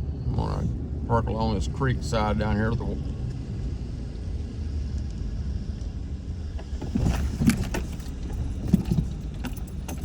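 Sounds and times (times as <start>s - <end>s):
vehicle rumble inside cabin: 0.0s - 10.0s.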